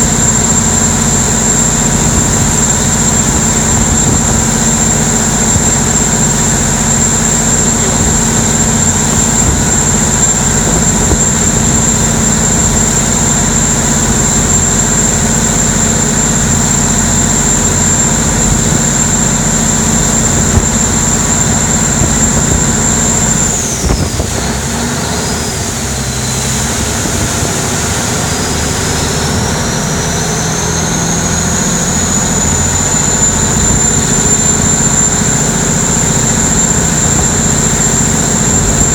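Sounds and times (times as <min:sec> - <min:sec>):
boat engine running hard: 0:00.0 - 0:38.9
water rushing along hull: 0:00.0 - 0:38.9.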